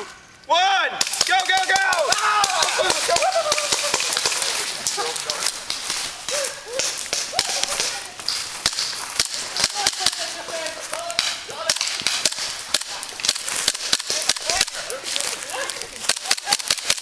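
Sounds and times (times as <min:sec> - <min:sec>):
airsoft pistols firing: 0:01.0 - 0:15.3, 0:16.0 - 0:17.0.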